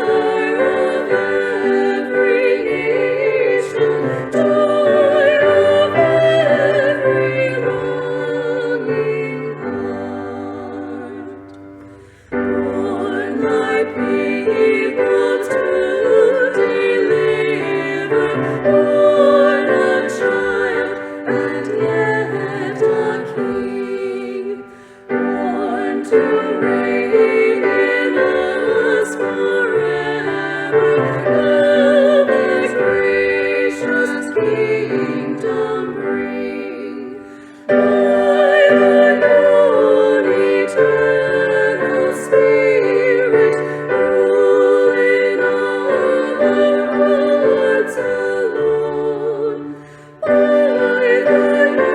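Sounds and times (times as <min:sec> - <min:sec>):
piano accompaniment: 0:00.0 - 0:51.9
women singing with vibrato: 0:00.0 - 0:51.9.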